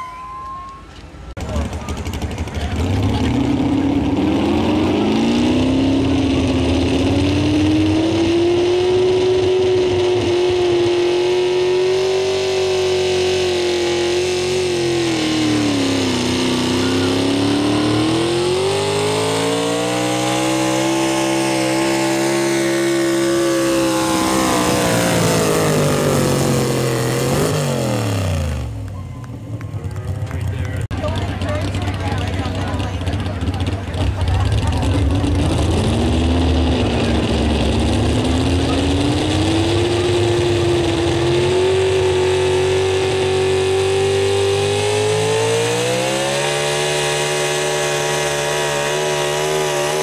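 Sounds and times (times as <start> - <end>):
truck engine at full throttle: 0.0 - 50.0.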